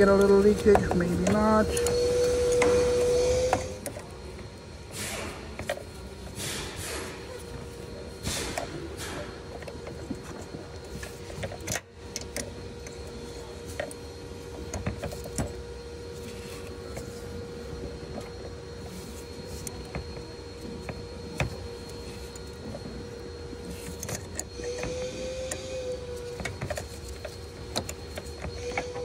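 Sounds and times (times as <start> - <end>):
small motor whining: 0.0 - 4.6, 7.4 - 29.0
steady hum: 0.0 - 29.0.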